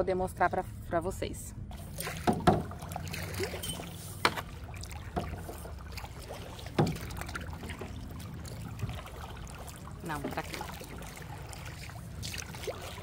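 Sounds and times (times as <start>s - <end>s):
paddle splashing in water: 1.7s - 13.0s.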